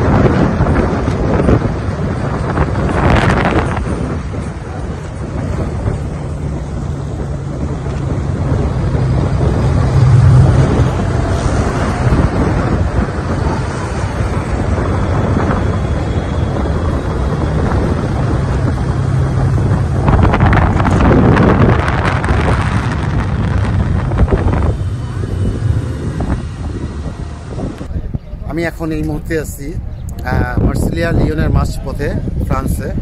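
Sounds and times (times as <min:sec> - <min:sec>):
motorcycle engine drone: 0:00.0 - 0:28.5
wind rushing over microphone: 0:00.0 - 0:33.0.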